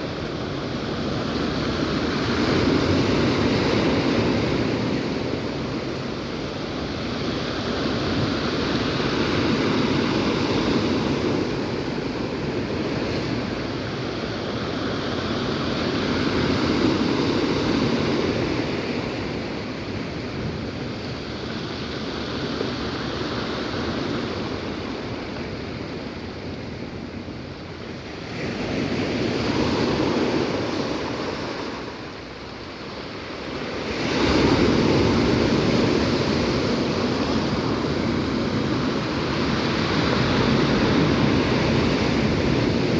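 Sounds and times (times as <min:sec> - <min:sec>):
sea surf breaking on shore: 0:00.0 - 0:42.9.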